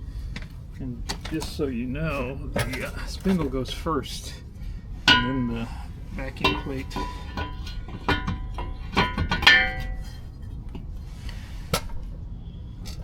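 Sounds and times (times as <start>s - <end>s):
steel parts clinking and clanking: 0.4s - 4.4s, 5.0s - 12.2s.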